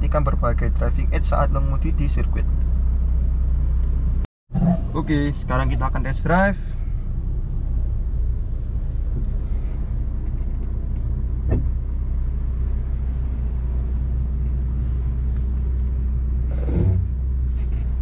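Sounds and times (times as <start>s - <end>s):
car engine drone: 0.0s - 18.0s.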